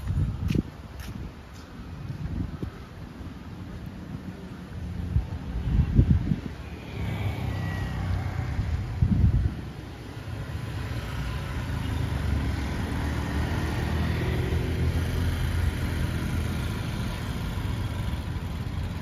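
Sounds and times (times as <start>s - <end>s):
car engines passing: 3.6s - 19.0s.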